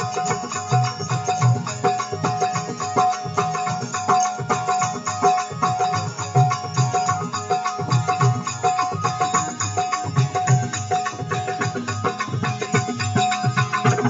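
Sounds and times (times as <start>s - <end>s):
hand drum beat: 0.0s - 14.0s.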